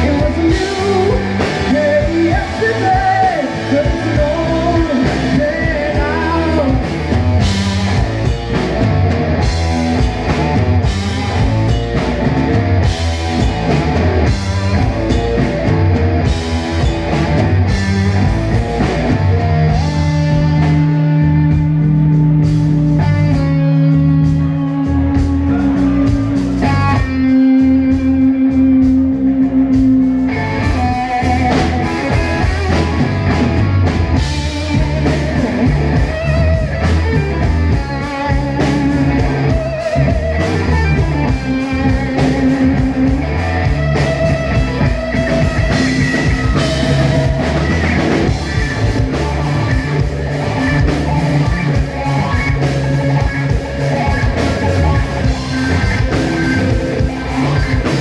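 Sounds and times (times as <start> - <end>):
bass guitar: 0.0 - 58.0
drum kit: 0.0 - 58.0
overdriven electric guitar: 0.0 - 58.0.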